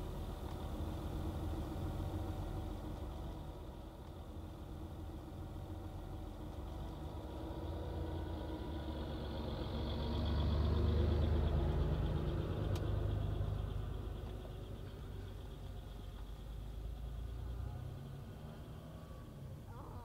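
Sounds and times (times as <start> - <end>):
car engine rumble: 0.0 - 20.0
passing car engine: 0.0 - 20.0.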